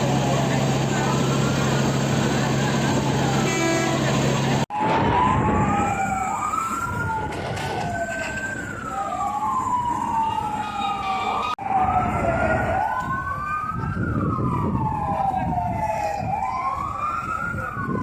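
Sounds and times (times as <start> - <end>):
emergency sirens wailing: 0.0 - 18.0
traffic rumble: 0.0 - 18.0.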